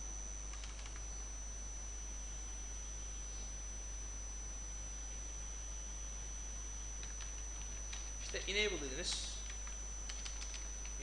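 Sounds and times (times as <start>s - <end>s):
high-pitched electrical whine: 0.0s - 11.0s
low hum: 0.0s - 11.0s.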